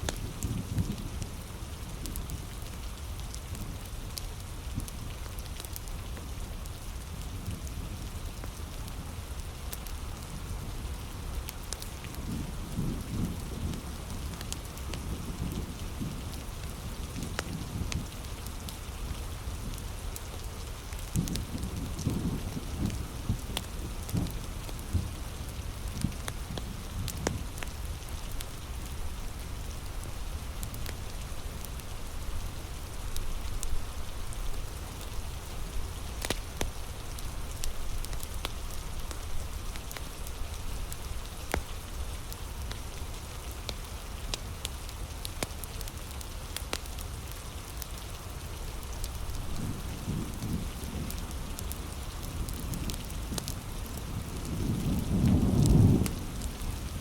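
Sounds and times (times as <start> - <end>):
heavy rain falling: 0.0 - 57.0
wood fire crackling and popping: 0.0 - 57.0.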